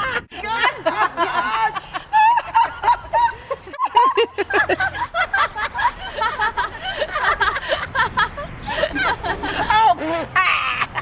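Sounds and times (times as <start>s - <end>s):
high-pitched voices laughing: 0.0s - 11.0s.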